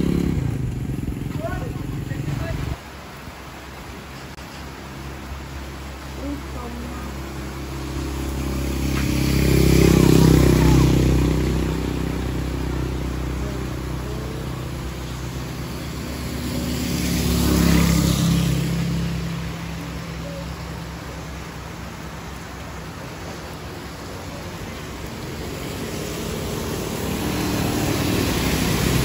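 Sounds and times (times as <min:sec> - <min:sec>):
steady rain: 0:00.0 - 0:29.0
tyres hissing on wet road: 0:00.0 - 0:29.0
vehicles passing: 0:00.0 - 0:29.0.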